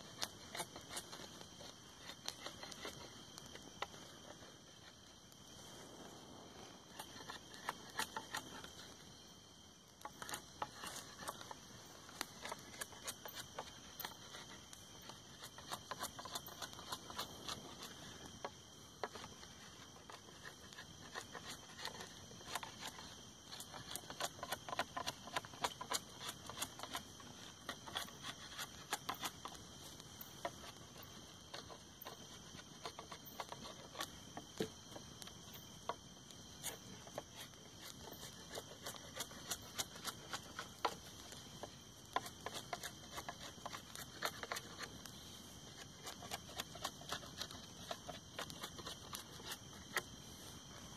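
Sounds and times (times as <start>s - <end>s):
knife scraping bark: 0.0s - 5.0s, 6.6s - 9.0s, 10.0s - 34.8s, 35.5s - 50.5s
insect trill: 0.0s - 50.9s.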